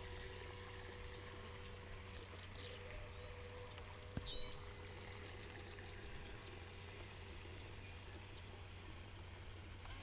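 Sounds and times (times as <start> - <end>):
birds chirping: 0.0 - 10.0
electric motor whine: 0.0 - 10.0.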